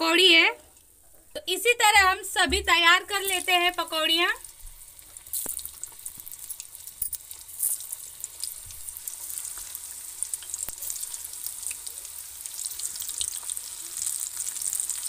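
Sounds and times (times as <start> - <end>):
leaf fritters sizzling in hot oil: 0.1 - 15.0.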